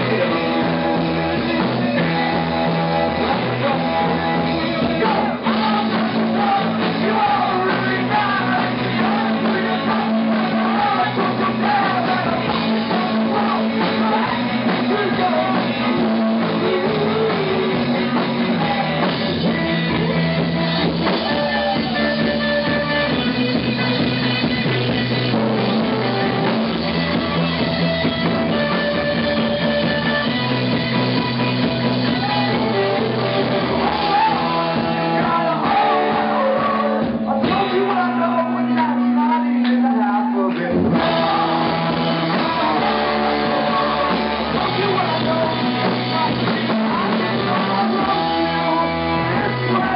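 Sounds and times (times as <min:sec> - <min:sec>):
man singing: 0:00.0 - 0:23.4, 0:31.2 - 0:49.9
drum kit: 0:00.0 - 0:49.9
electric bass: 0:00.0 - 0:49.9
electric guitar: 0:00.0 - 0:49.9
keyboard: 0:00.0 - 0:49.9.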